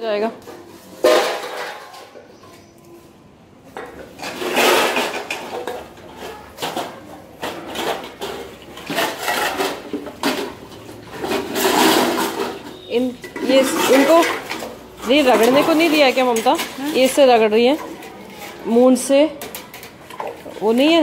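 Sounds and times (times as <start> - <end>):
steel dishes clattering on stone floor: 0.1 - 2.8, 3.8 - 21.0.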